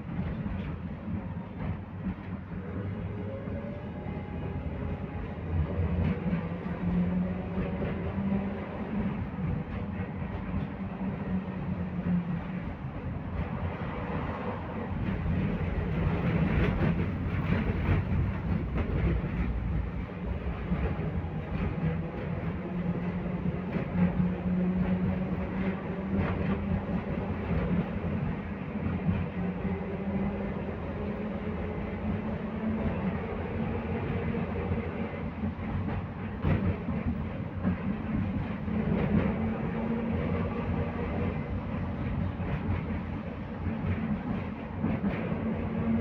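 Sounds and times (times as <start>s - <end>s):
track clacks: 0.0s - 46.0s
tram wheels rumbling on rails: 0.0s - 46.0s.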